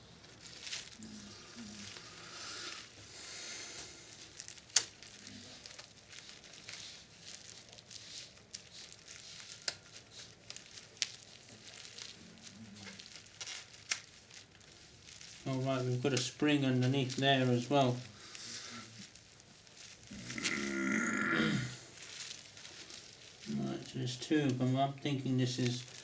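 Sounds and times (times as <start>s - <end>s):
plastic casing rustling and scraping: 0.0s - 26.0s.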